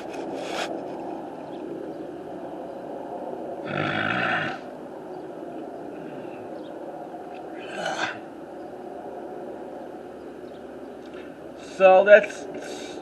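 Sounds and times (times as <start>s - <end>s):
trucks running: 0.0s - 13.0s.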